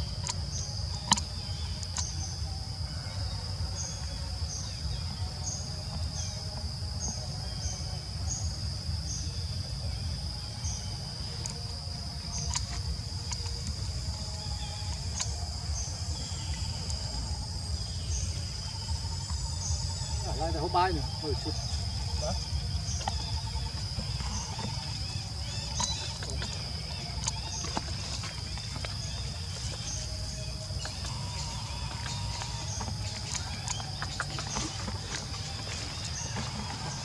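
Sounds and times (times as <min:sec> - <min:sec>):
insect chirps: 0:00.0 - 0:37.0
insect high-pitched trill: 0:00.0 - 0:37.0.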